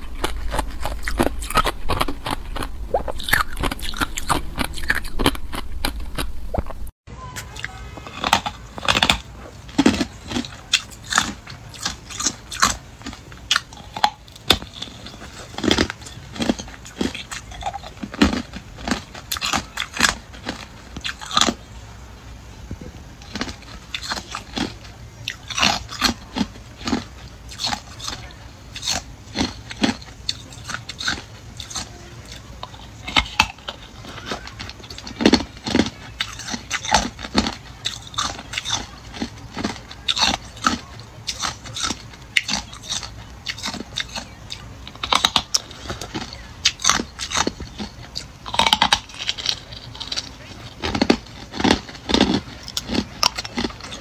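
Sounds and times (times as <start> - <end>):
ice crunching being chewed: 0.0 - 6.9, 7.5 - 54.0.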